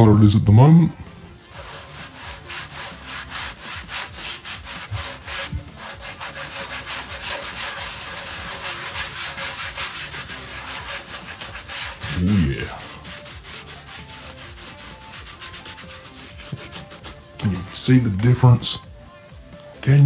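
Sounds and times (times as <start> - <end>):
cloth rubbing textured surface: 1.1 - 18.0.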